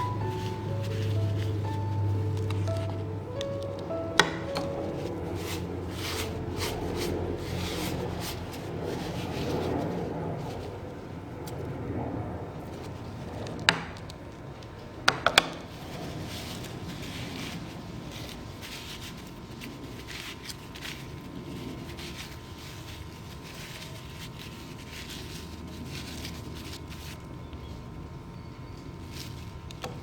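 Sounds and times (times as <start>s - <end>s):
hands rubbing lemons: 0.0s - 11.6s, 15.6s - 30.0s.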